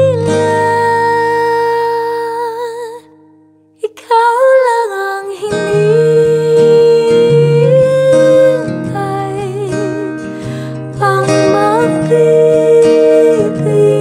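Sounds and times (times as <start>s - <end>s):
woman singing with vibrato: 0.0s - 3.2s, 3.8s - 14.0s
acoustic guitar: 0.0s - 14.0s.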